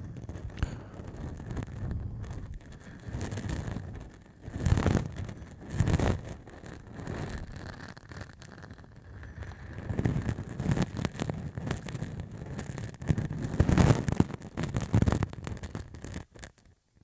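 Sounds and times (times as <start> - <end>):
stubble scratching on microphone: 0.0 - 16.7.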